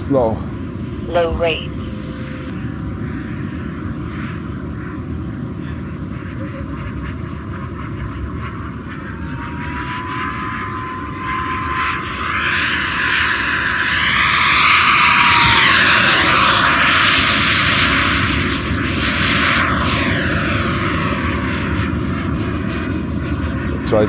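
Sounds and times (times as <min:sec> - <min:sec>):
electric ducted fan whine: 0:00.0 - 0:24.0.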